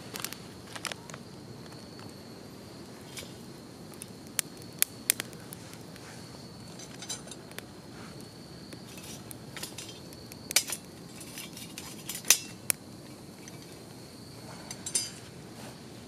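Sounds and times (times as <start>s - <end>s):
high insect trill: 0.0s - 16.0s
wood fire crackling: 0.0s - 16.0s.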